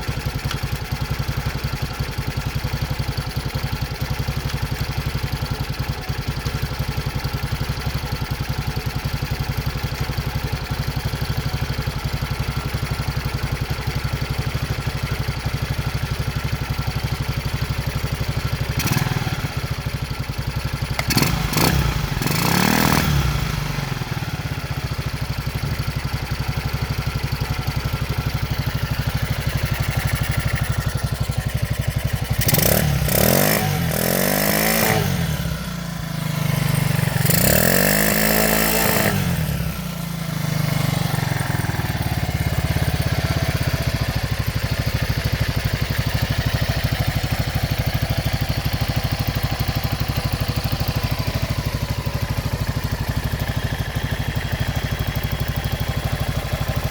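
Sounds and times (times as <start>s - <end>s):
motorcycle engine idling and revving: 0.0s - 56.9s.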